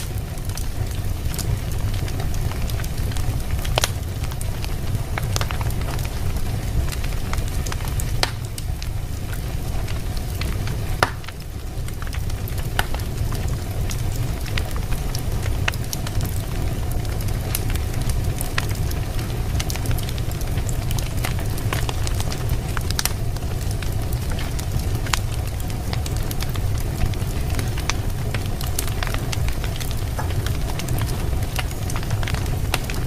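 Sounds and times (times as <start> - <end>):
low fire rumble: 0.0 - 33.0
wood fire crackling and popping: 0.0 - 33.0.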